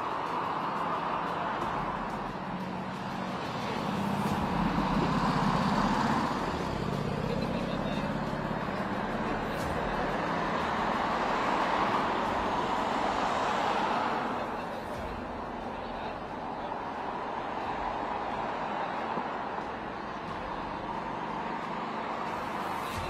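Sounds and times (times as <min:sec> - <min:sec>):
road traffic noise: 0:00.0 - 0:23.0
vehicle engine hum: 0:00.0 - 0:23.0.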